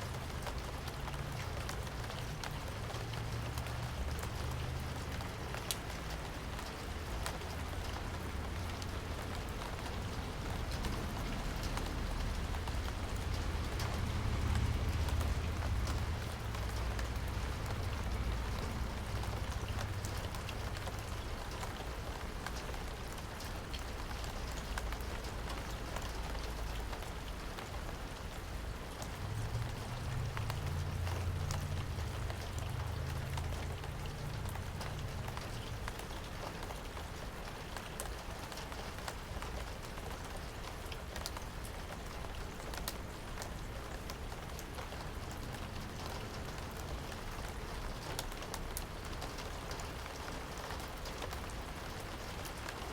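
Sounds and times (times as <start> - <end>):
low rain rumble: 0.0 - 52.9
rain drops tapping: 0.0 - 52.9.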